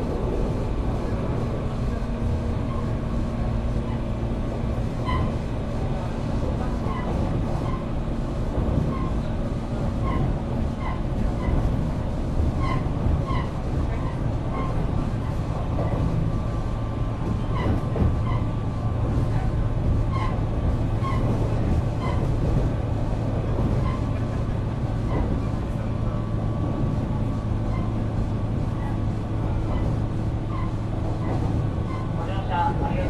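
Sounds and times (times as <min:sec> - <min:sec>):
train motors humming: 0:00.0 - 0:33.0
wheel and rail noise: 0:00.0 - 0:33.0.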